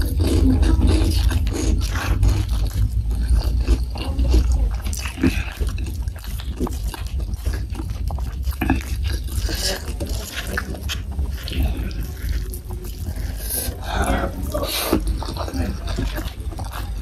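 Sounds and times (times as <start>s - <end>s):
steady low hum: 0.0s - 17.0s
wet chewing and lip-smacking: 0.0s - 17.0s.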